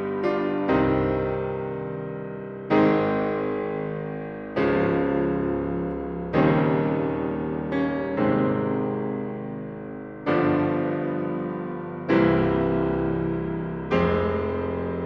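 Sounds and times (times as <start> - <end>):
slow keyboard chords: 0.0 - 15.0.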